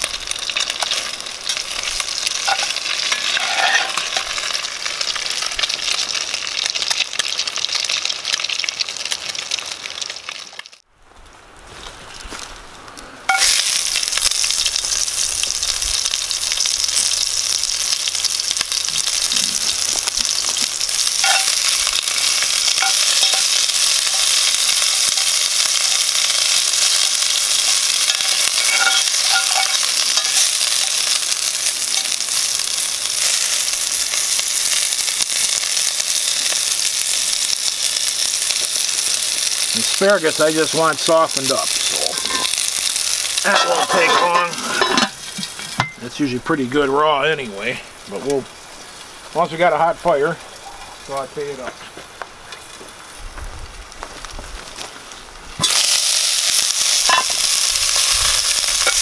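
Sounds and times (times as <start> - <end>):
asparagus sizzling in hot oil: 0.0 - 10.8, 13.3 - 59.0.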